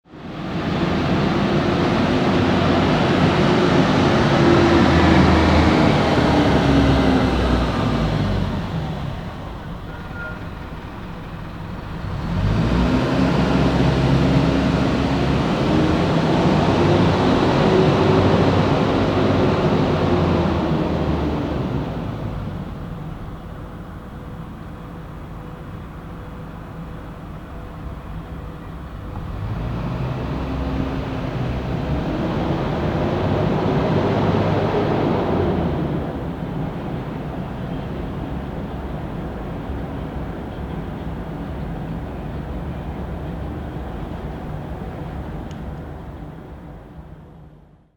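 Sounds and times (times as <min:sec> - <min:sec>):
diesel truck passing: 0:00.1 - 0:47.7.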